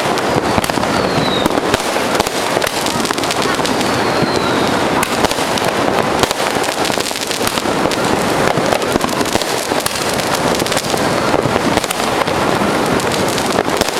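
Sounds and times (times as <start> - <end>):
fireworks and firecrackers banging: 0.0 - 13.9.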